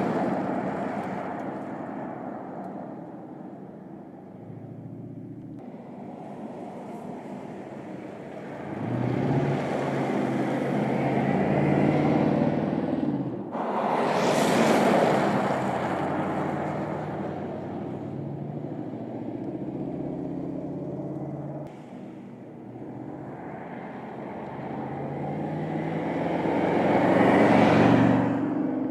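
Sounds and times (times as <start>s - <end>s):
car engine drone: 0.0s - 28.9s
wind and road noise: 0.0s - 28.9s.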